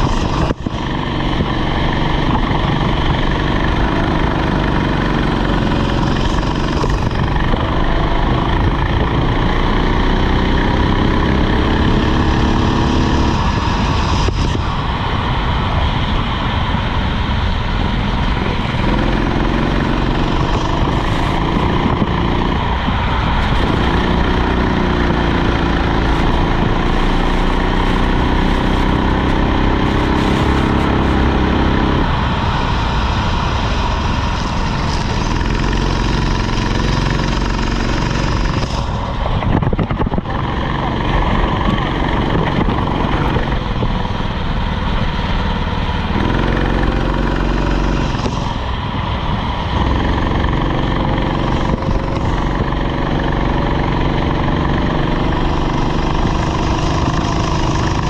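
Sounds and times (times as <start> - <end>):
kart engine running under load: 0.0 - 58.0.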